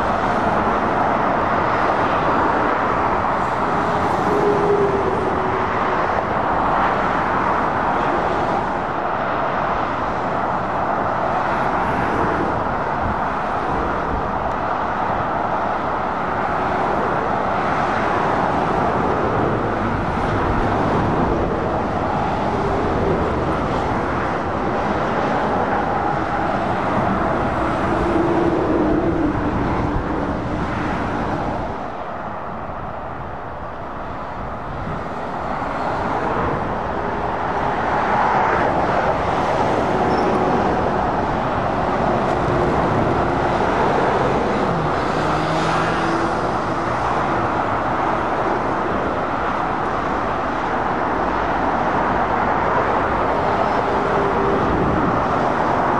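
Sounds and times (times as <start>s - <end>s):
tyre and road noise: 0.0s - 55.9s.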